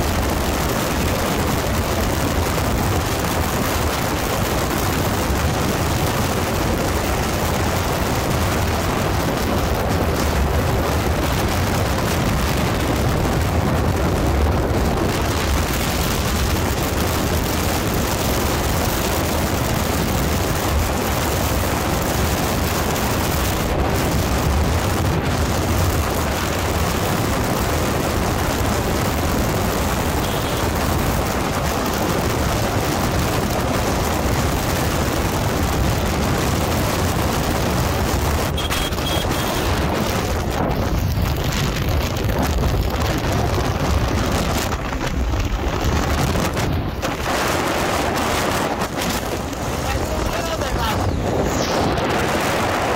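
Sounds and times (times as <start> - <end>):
wind roar on microphone: 0.0 - 52.9.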